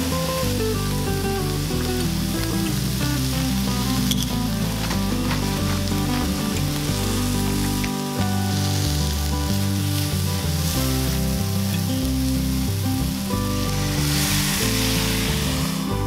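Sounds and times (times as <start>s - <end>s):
background music with bass: 0.0s - 16.0s
vegetables sizzling in skillet: 0.0s - 16.0s.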